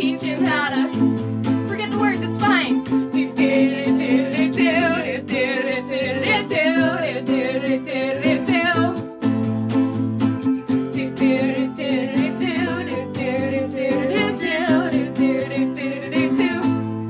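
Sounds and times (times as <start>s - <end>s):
woman singing with vibrato: 0.0s - 9.0s, 11.0s - 16.9s
electric guitar strumming: 0.0s - 17.0s
ukulele strumming: 0.0s - 17.0s.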